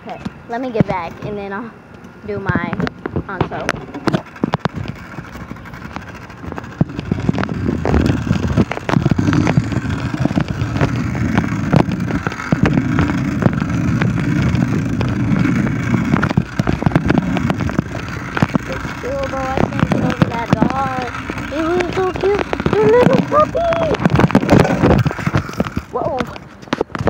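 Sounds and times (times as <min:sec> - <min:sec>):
wind rumbling on microphone: 0:02.2 - 0:27.0
bike knocks and rattles: 0:02.4 - 0:27.0.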